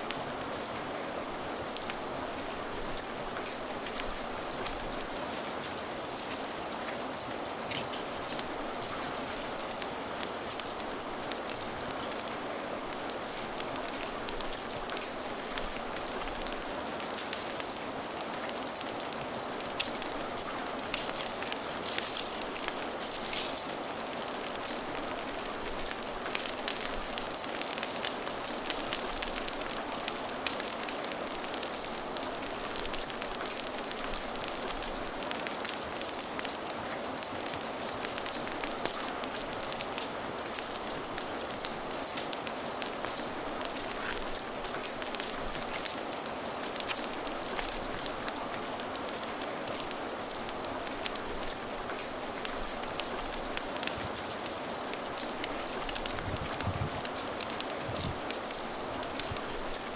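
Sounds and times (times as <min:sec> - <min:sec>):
steady rain hissing: 0:00.0 - 0:59.9
wood fire crackling: 0:00.0 - 0:59.9.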